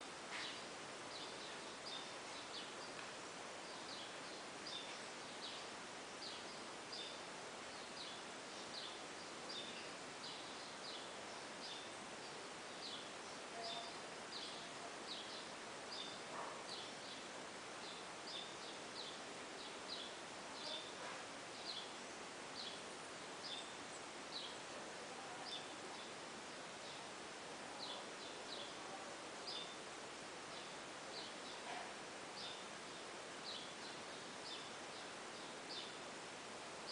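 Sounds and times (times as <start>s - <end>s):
steady background hiss: 0.0s - 36.9s.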